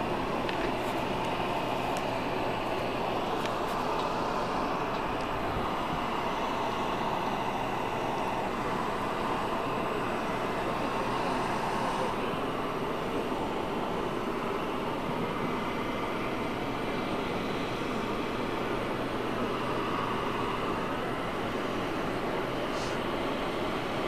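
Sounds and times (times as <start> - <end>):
jet aircraft engine rushing: 0.0 - 24.0.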